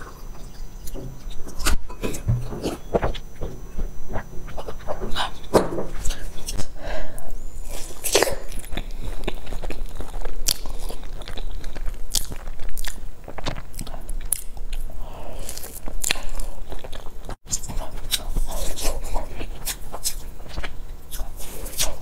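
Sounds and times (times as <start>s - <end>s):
person chewing cake: 0.0s - 22.0s.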